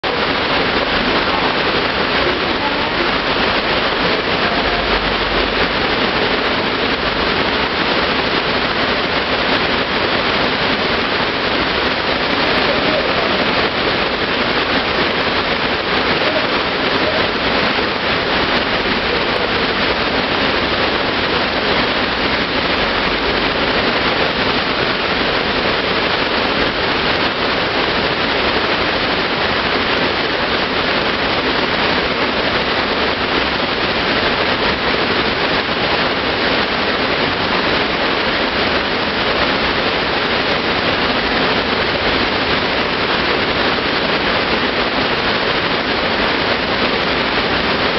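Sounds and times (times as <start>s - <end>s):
water rushing: 0.0s - 47.9s.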